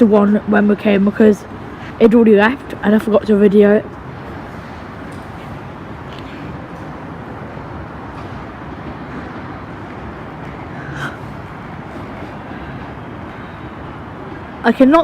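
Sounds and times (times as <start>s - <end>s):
railway station rumble: 0.0s - 15.0s.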